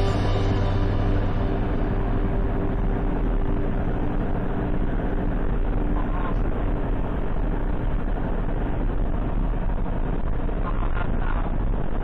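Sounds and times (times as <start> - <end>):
vehicle road and engine noise: 0.0 - 12.0.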